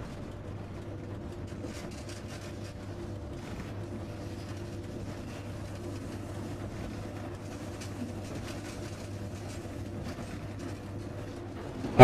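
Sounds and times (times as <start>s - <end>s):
constant low hum: 0.0s - 12.0s
train rumbling on track: 0.0s - 12.0s.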